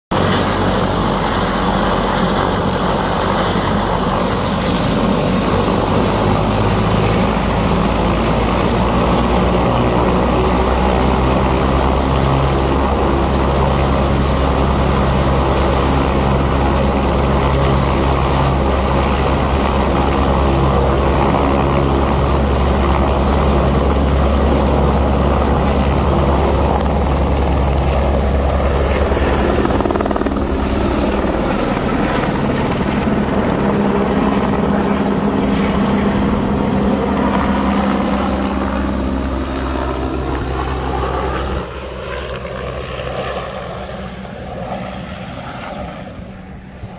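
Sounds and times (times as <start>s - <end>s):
helicopter rotor beating: 0.1s - 46.9s
high turbine whine: 0.1s - 46.9s.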